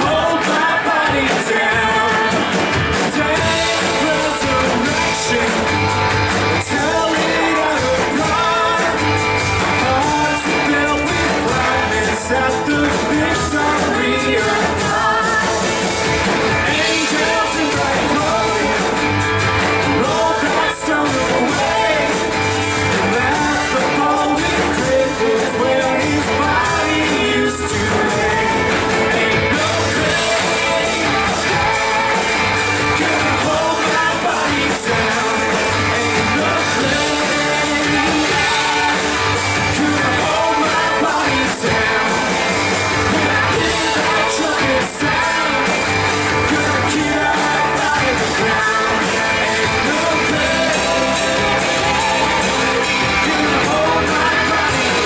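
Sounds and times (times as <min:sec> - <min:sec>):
guitar: 0:00.0 - 0:55.0
lead singer singing: 0:00.0 - 0:55.0
live rock band playing: 0:00.0 - 0:55.0.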